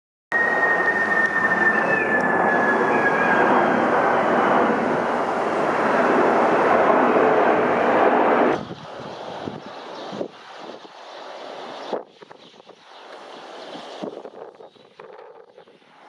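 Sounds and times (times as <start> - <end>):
jet engines whining: 0.3 - 16.0.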